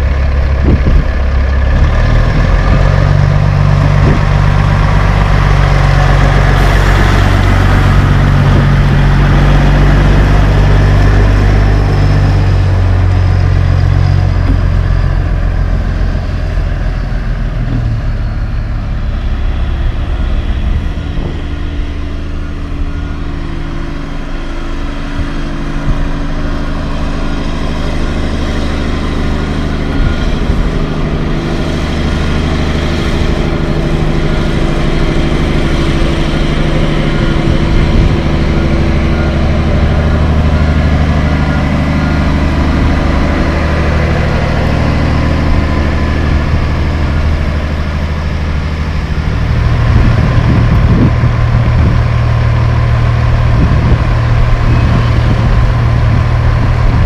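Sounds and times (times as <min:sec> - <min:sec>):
dump truck diesel engine driving past: 0:00.0 - 0:57.0.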